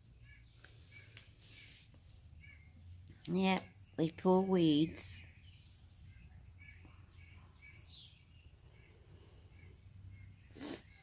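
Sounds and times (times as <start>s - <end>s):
faint songbird calls: 0.0s - 11.0s.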